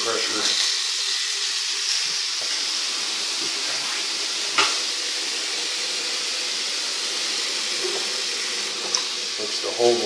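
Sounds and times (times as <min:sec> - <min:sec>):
faucet running into sink: 0:00.0 - 0:10.0.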